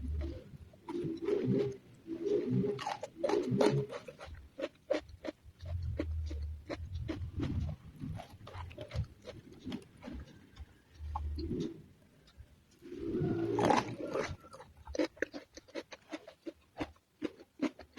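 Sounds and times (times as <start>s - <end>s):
wet mouth sounds: 0.0s - 17.9s
person chewing crunchy food: 2.4s - 17.9s.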